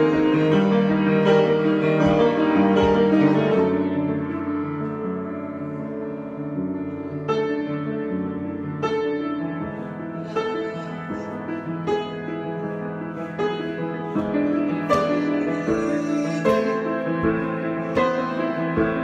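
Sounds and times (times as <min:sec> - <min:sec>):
solo piano: 0:00.0 - 0:19.0.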